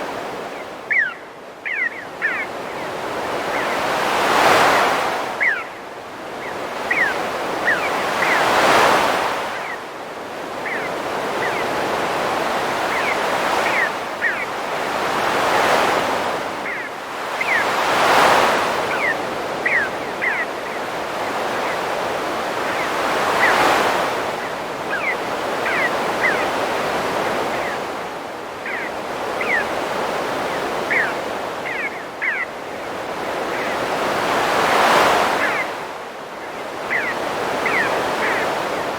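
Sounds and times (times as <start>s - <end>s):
birds chirping: 0.0s - 9.9s, 10.5s - 35.8s, 36.4s - 38.9s
ocean waves breaking: 2.2s - 5.6s, 6.3s - 38.9s.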